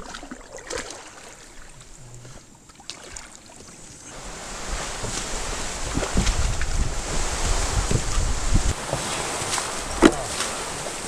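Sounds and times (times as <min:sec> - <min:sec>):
water rushing and sloshing: 0:00.0 - 0:11.0
paddle knocks: 0:02.1 - 0:11.0.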